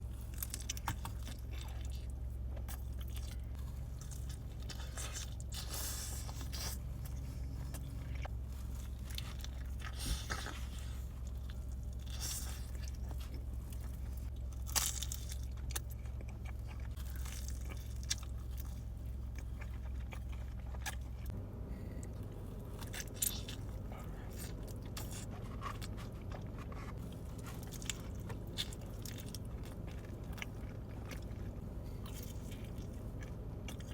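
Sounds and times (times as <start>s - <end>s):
crunchy chewing of pizza crust: 0.0s - 33.9s
steady low hum: 0.0s - 33.9s.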